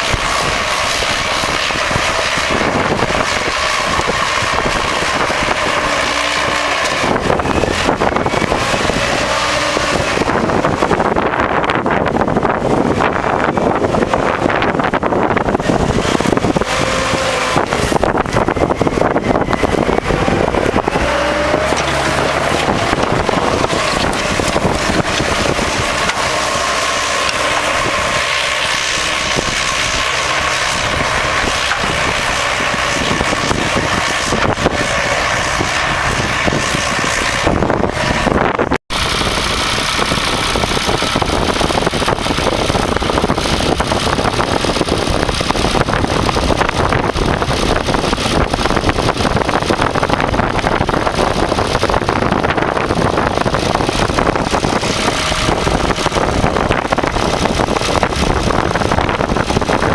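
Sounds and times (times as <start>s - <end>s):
tractor engine under load: 0.0s - 59.9s
wind on microphone: 0.0s - 59.9s.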